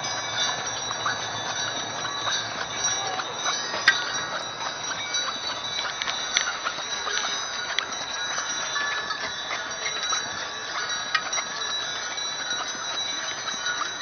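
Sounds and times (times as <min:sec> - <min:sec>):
harness bells jingling: 0:00.0 - 0:14.0
sharp clinks: 0:00.0 - 0:14.0.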